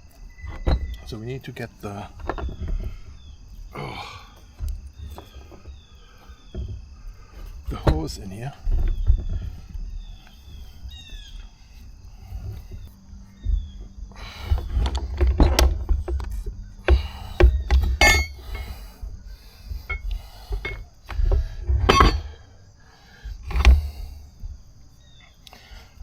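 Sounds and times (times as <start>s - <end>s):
clicks knocks and rattles of parts: 0.1s - 3.3s, 4.3s - 22.5s, 23.2s - 24.6s.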